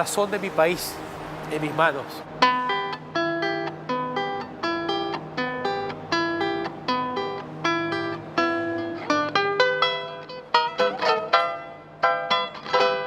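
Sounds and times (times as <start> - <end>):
cuatro strummed in steady rhythm: 2.4 - 13.0.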